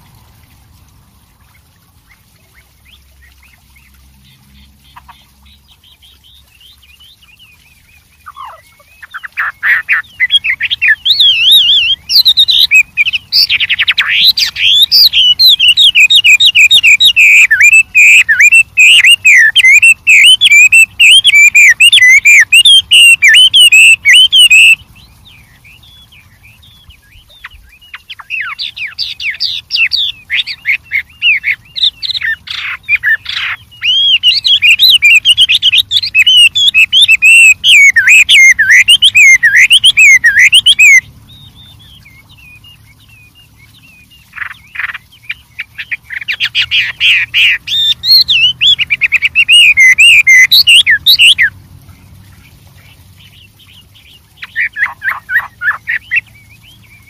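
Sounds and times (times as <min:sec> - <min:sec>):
bird singing whistled phrases: 0:06.2 - 0:51.5, 0:53.3 - 0:57.0.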